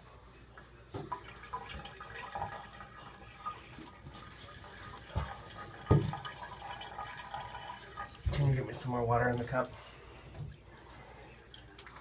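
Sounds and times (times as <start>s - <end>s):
water splashing in bathtub: 1.0s - 12.0s.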